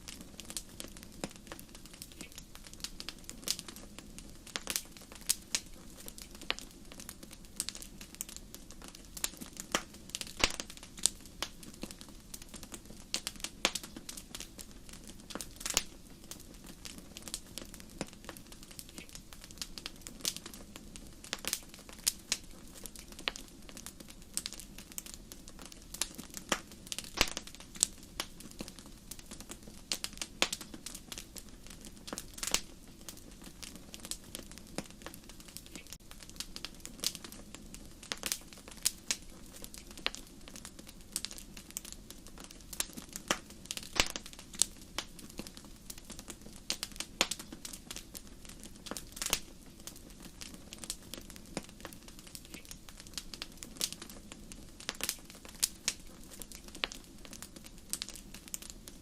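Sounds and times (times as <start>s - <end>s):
hiss of flames: 0.0s - 59.0s
wood fire popping and snapping: 0.0s - 59.0s.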